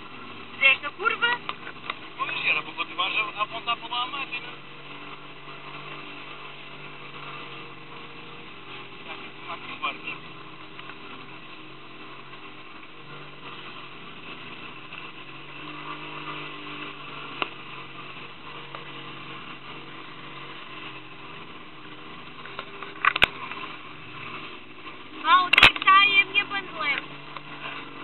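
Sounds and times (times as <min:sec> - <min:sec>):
boat motor running: 0:00.0 - 0:28.0
water rushing past hull: 0:00.0 - 0:28.0.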